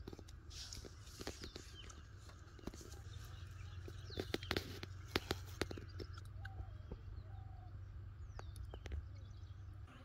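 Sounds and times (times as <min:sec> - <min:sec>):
low steady rumble: 0:00.0 - 0:10.0
faint bird calls: 0:00.7 - 0:10.0.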